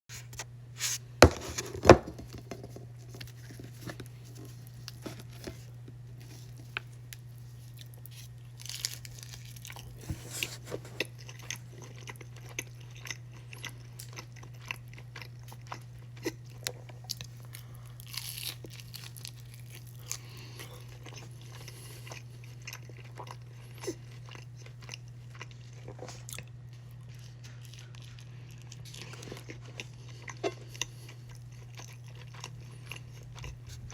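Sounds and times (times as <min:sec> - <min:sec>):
steady low hum: 0:00.1 - 0:33.9
crisp tortilla crunching: 0:01.2 - 0:33.9.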